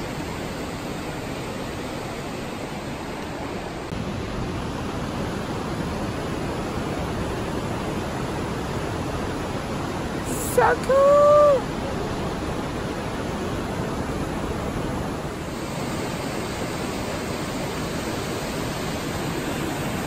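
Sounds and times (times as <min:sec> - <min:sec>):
river rushing over boulders: 0:00.0 - 0:20.0.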